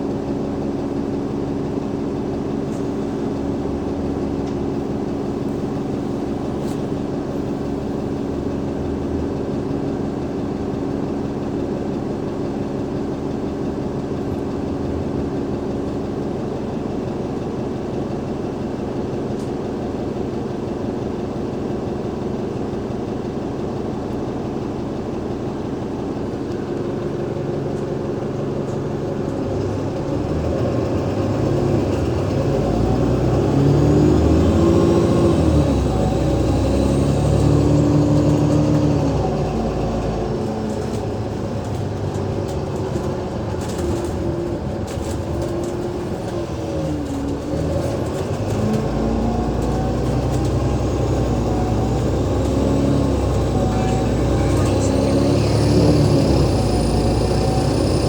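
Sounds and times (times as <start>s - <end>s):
bus pulling away shifting gears: 0.0s - 58.0s
diesel bus engine running: 0.0s - 58.0s.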